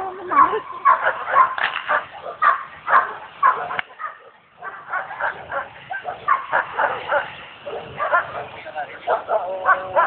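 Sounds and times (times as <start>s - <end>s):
dog barking: 0.3s - 10.0s.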